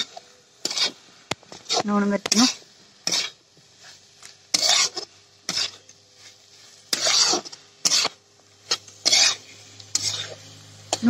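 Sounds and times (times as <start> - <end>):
faint sizzling: 0.0 - 11.0
spatula scraping metal pan: 0.0 - 11.0.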